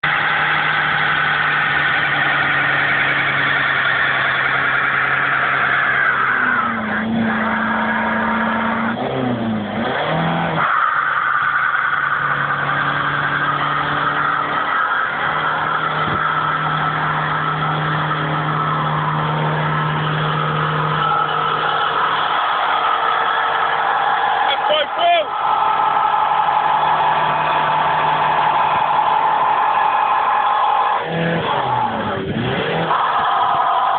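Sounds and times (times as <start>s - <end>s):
diesel engine at high revs: 0.0s - 33.9s.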